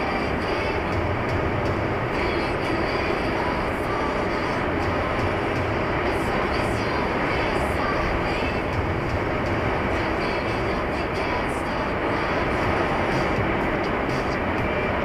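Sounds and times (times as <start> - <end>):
vehicle tyres and engine rumbling: 0.0 - 15.0.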